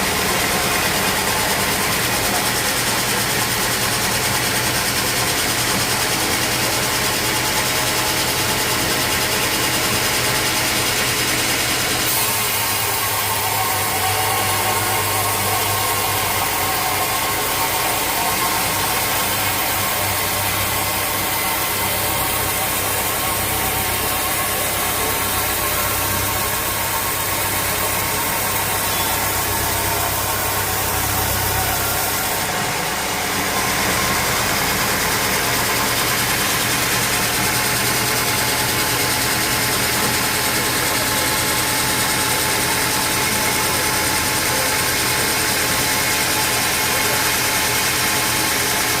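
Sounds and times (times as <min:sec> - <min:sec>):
sawmill machinery humming: 0:00.0 - 0:49.0.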